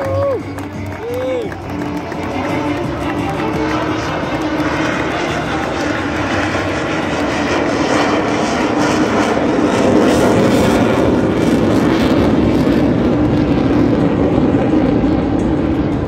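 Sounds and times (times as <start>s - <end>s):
jet aircraft engine: 0.0s - 16.0s.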